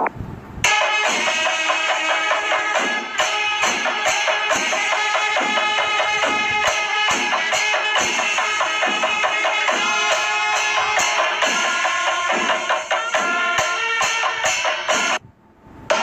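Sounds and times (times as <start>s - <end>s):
drums beaten with sticks: 0.7s - 15.2s
hand cymbals clashing: 0.7s - 15.2s.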